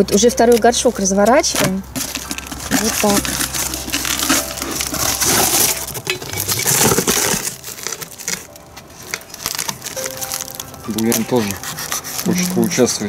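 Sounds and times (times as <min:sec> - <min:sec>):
packing material rustling: 0:00.5 - 0:13.0.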